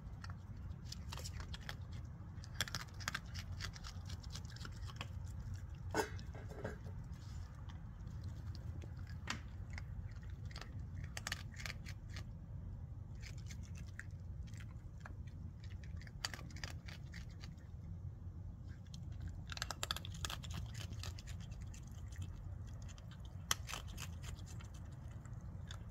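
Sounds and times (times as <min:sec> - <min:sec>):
low background rumble: 0:00.0 - 0:25.9
raccoon crunching kibble: 0:00.0 - 0:25.9.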